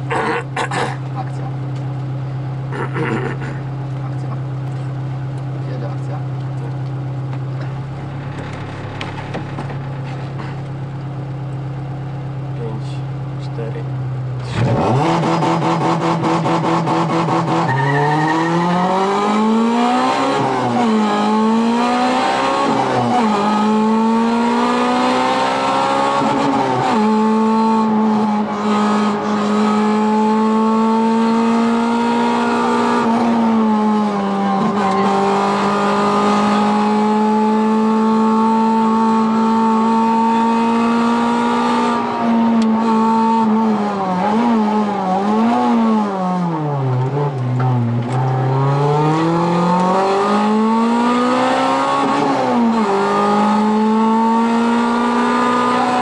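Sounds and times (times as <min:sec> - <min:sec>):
rally car engine accelerating: 0:00.0 - 0:56.0.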